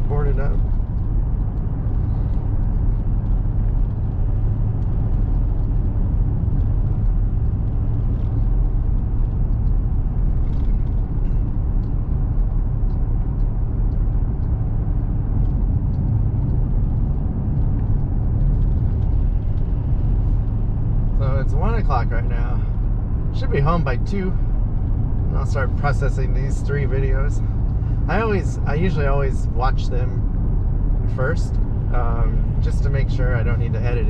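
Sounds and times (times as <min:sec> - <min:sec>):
truck engine hum: 0:00.0 - 0:34.0
tyre road noise: 0:00.0 - 0:34.0.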